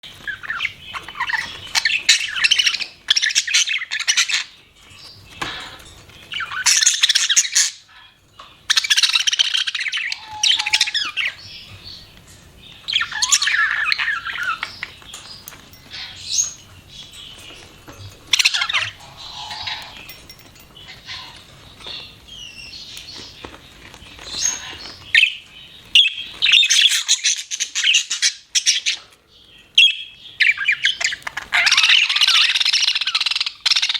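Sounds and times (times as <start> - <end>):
budgerigars chirping and chattering: 0.1 - 33.9.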